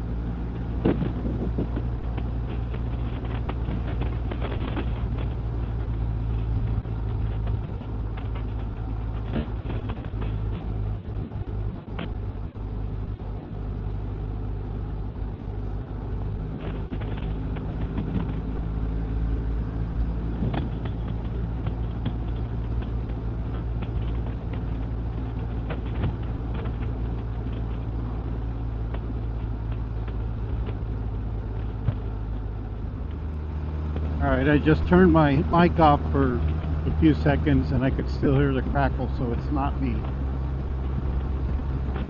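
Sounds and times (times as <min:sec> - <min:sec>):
motorcycle engine hum: 0:00.0 - 0:42.0
road noise: 0:00.0 - 0:42.0.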